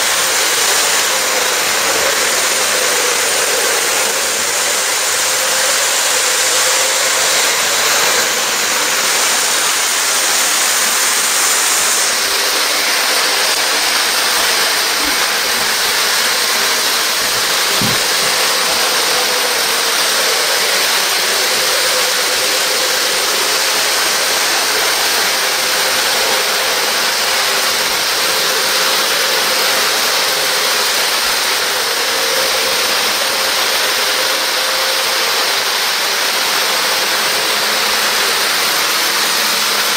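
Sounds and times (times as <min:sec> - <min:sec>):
model train rolling rumble: 0:00.0 - 0:39.9.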